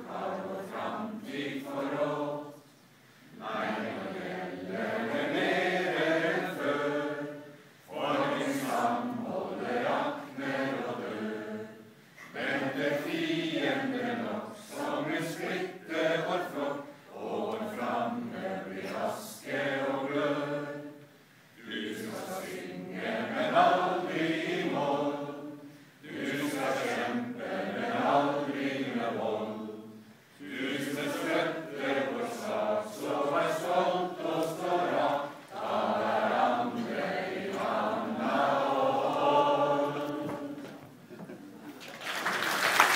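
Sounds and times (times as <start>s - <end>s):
crowd singing together: 0.0s - 41.4s.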